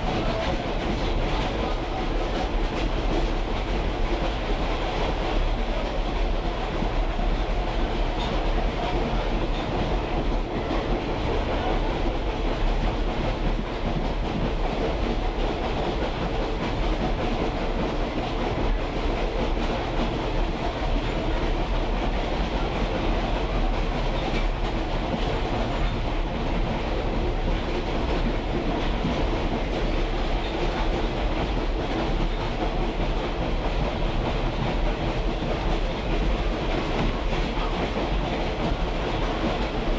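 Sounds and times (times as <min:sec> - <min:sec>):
railroad car rumbling on rails: 0:00.0 - 0:39.9.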